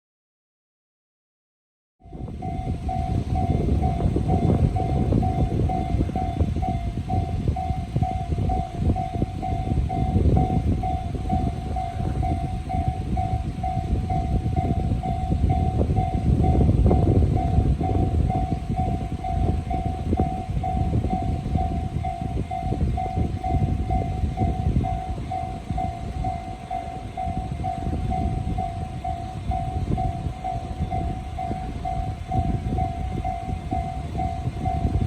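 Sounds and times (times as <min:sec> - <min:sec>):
level crossing warning bell: 0:02.0 - 0:35.0
passing train rumble: 0:02.0 - 0:35.0.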